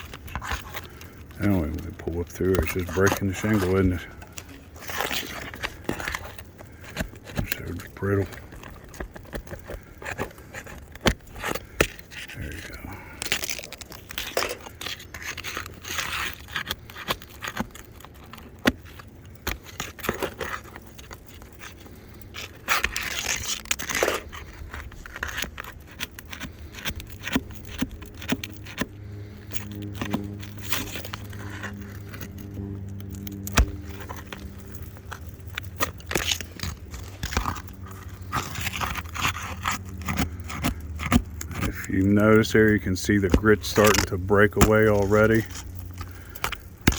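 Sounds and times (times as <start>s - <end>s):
roof shingles scraping and cracking: 0.0s - 46.9s
steady low hum: 0.0s - 46.9s.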